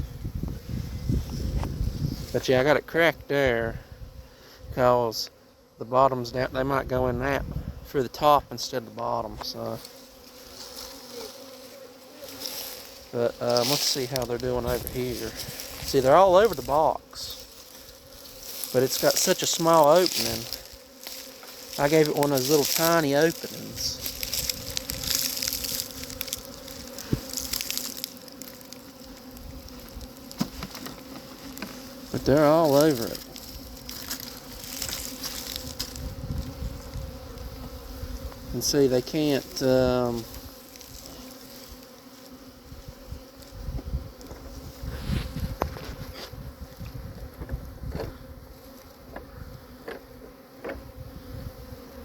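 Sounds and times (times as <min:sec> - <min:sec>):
bee swarm buzzing: 0:00.0 - 0:52.0.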